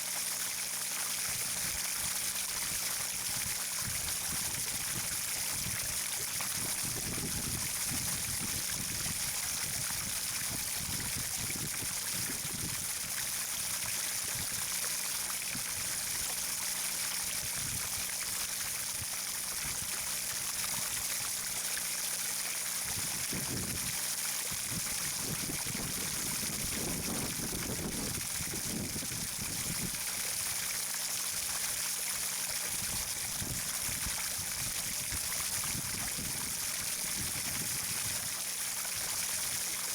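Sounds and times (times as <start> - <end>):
trickling running water: 0.0 - 39.9.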